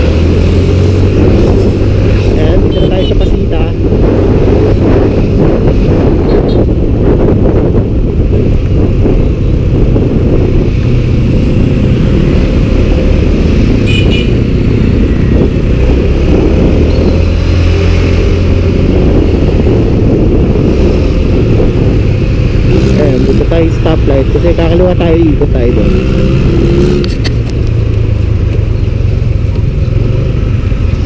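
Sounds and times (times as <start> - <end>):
wind rush: 0.0 - 31.0.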